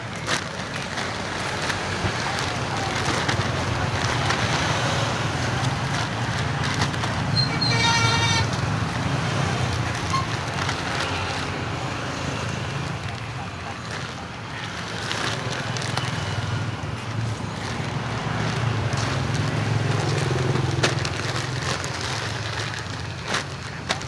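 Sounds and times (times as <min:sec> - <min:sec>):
small clicks and rustles: 0:00.0 - 0:24.0
traffic-like rumble: 0:00.0 - 0:24.0.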